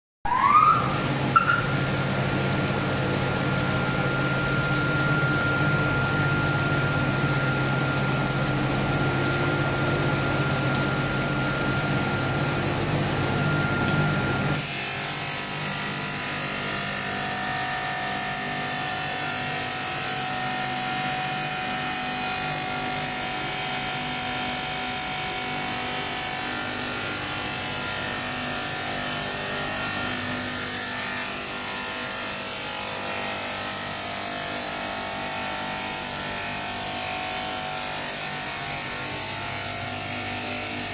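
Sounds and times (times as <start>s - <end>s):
tile cutting hum and hiss: 1.0s - 40.9s
tile cutter motor whine: 3.0s - 40.9s.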